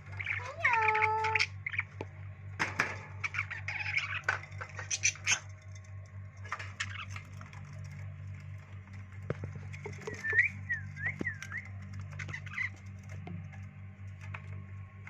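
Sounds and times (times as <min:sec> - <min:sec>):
pet birds chirping: 0:00.0 - 0:02.2, 0:02.9 - 0:05.8, 0:06.4 - 0:13.7
steady low hum: 0:00.0 - 0:15.0.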